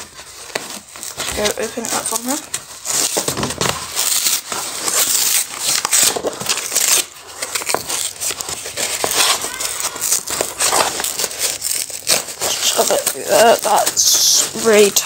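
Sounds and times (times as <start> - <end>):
plastic packaging crinkling and tearing: 0.0 - 15.0.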